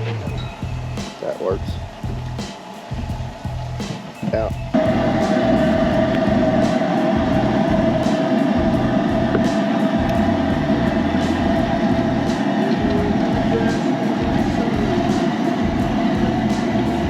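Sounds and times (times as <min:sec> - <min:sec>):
loud mechanical rumble: 0:00.0 - 0:17.0.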